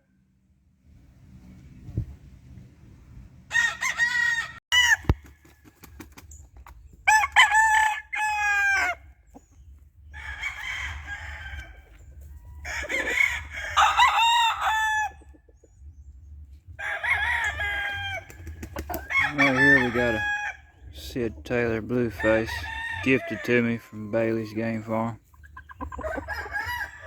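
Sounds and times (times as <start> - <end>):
roosters crowing: 3.5 - 6.4, 7.0 - 15.6, 16.5 - 27.0.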